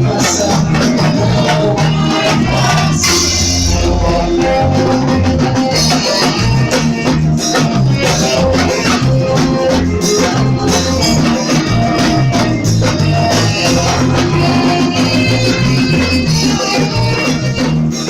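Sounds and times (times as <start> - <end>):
instrumental band music: 0.0 - 18.0.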